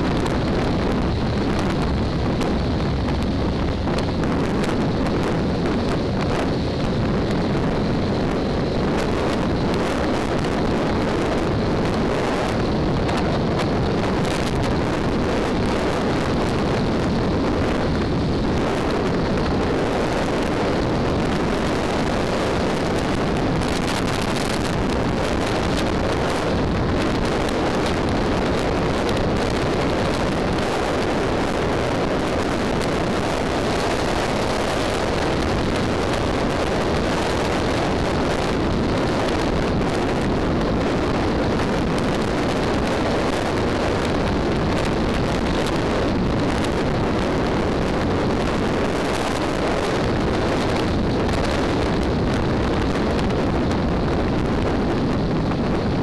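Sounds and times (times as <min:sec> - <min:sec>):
road and motorcycle noise: 0:00.0 - 0:56.0
wind noise on microphone: 0:00.0 - 0:56.0.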